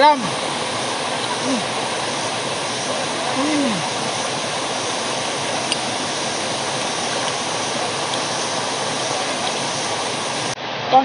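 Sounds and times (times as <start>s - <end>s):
water pouring into pool: 0.0s - 10.6s.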